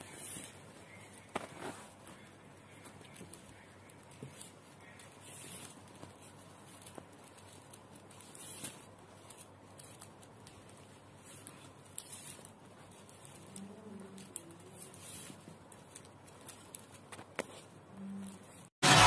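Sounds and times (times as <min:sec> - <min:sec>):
plastic wire strands rustling: 0:00.0 - 0:18.8.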